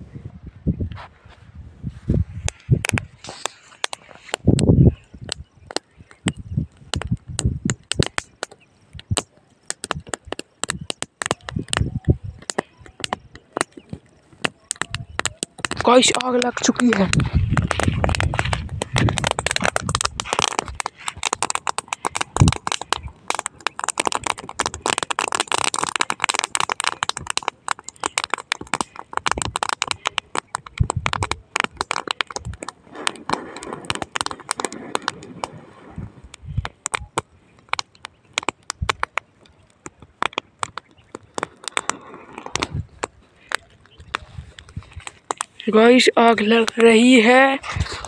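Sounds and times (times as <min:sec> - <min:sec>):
stubble fire crackling and popping: 0:01.8 - 0:48.0.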